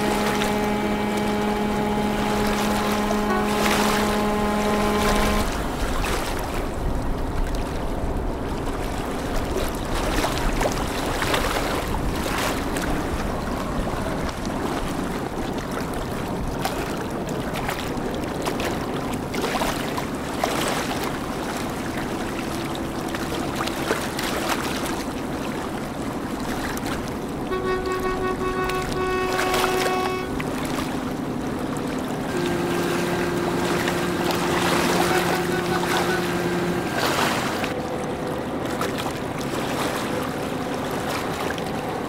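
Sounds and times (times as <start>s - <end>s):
boat engine droning: 0.0s - 42.0s
water washing: 0.0s - 42.0s
wind: 0.0s - 42.0s.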